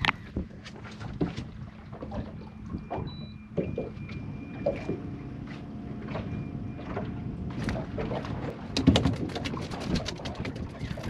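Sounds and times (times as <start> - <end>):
waves slapping boat hull: 0.0 - 11.0.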